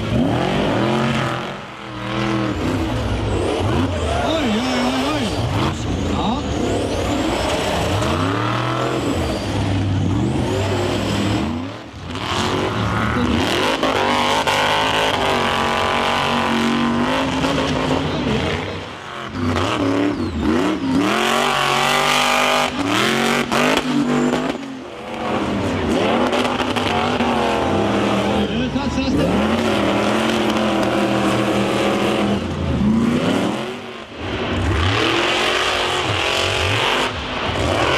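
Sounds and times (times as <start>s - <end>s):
monster truck engine revving: 0.0s - 37.9s.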